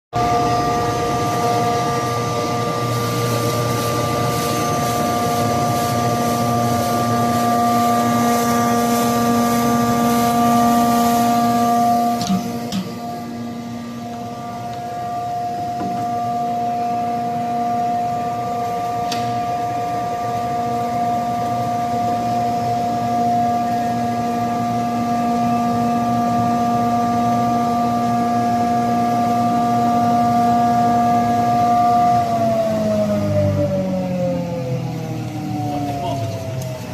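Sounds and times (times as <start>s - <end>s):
grinder motor whine: 0.2s - 36.9s.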